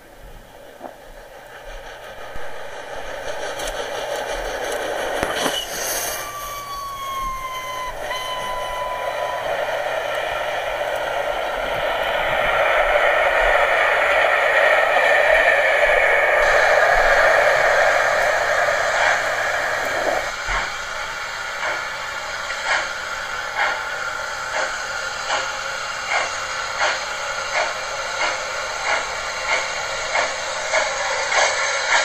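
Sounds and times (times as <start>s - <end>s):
model train running on track: 0.0s - 32.0s
regular track clicks: 0.5s - 32.0s.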